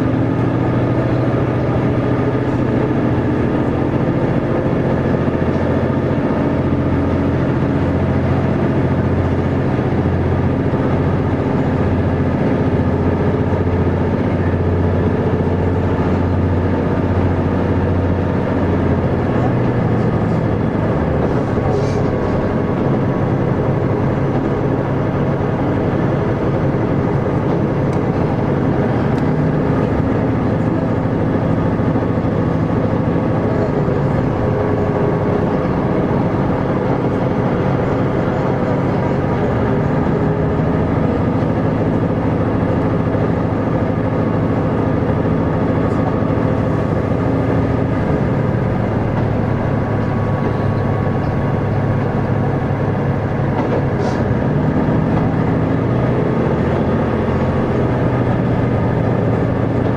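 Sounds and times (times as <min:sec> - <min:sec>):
diesel engine drone: 0:00.0 - 0:59.9
train running noise: 0:00.0 - 0:59.9.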